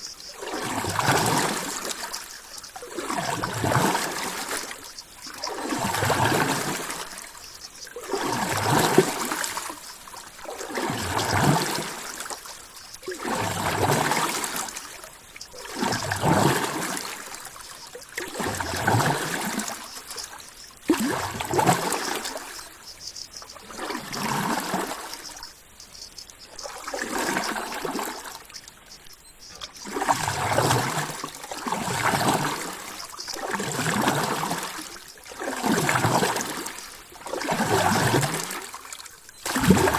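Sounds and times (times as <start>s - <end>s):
ocean water sloshing: 0.0s - 39.9s.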